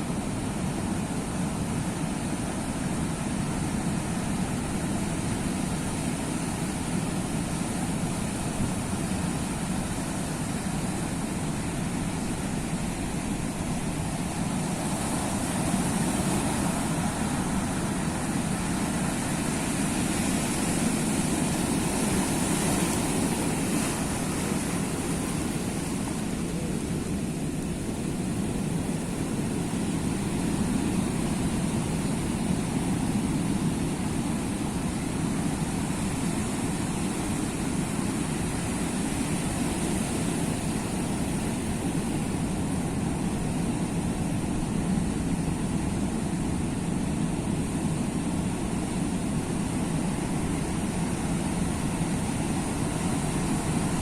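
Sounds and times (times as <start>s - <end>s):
sea surf roar: 0.0s - 54.0s.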